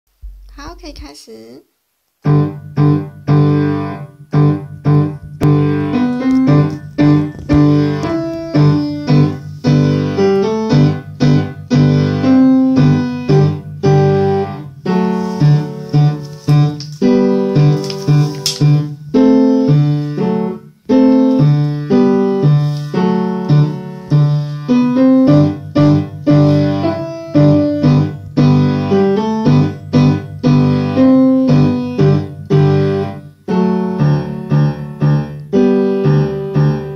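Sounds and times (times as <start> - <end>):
acoustic piano notes: 2.2 - 36.9.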